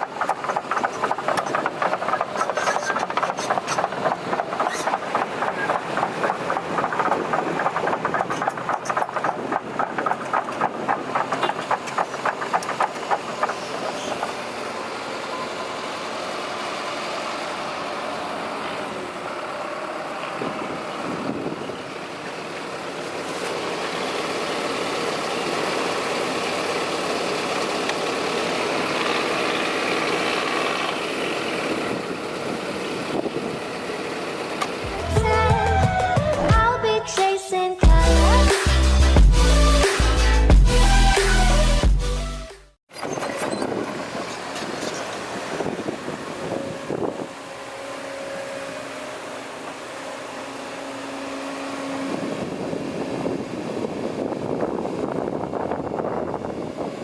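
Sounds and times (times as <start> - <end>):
diesel machinery engine clattering: 0.0 - 36.6, 42.9 - 57.0.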